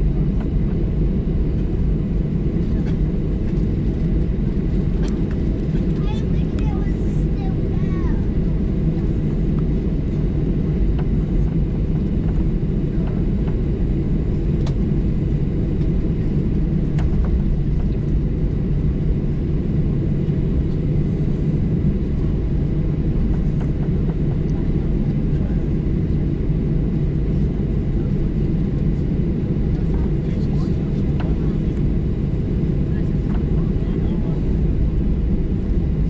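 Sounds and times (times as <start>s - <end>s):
airplane cabin engine drone: 0.0s - 36.0s.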